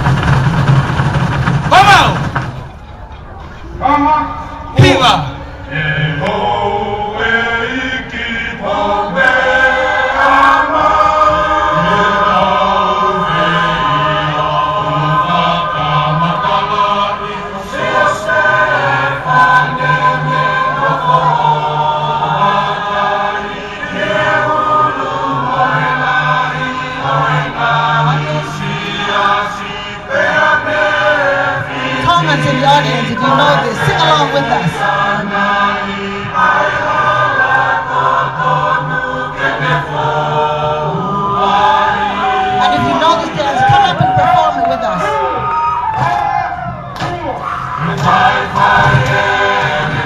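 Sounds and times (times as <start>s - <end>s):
group singing choral chant: 4.6s - 46.8s, 47.4s - 50.0s.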